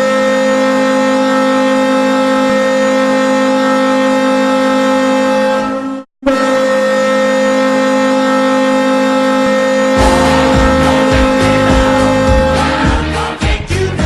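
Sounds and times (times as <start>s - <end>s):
hockey goal horn: 0.0s - 13.2s.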